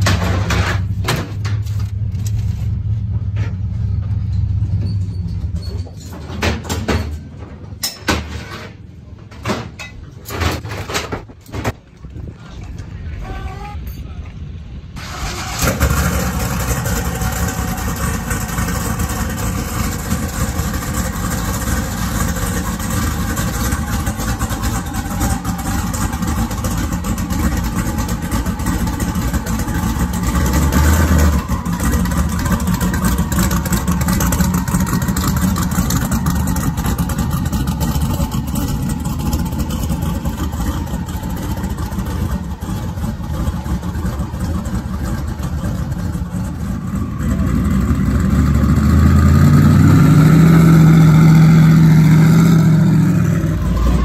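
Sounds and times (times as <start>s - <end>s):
truck engine starting and idling: 0.0s - 54.0s.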